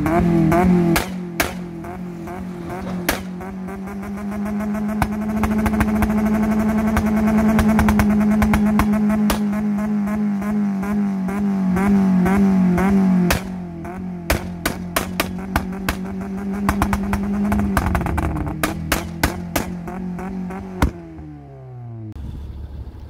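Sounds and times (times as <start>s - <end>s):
car engine stuttering on rev limiter: 0.0s - 21.3s
exhaust bangs: 0.0s - 23.0s.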